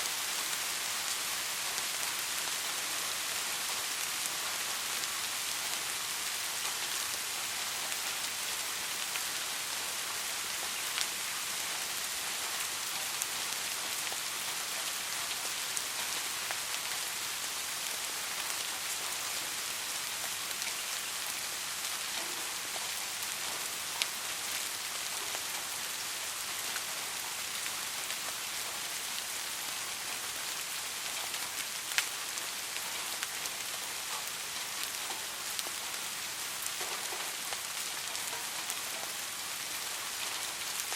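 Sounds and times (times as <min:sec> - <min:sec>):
soft rain: 0:00.0 - 0:40.9.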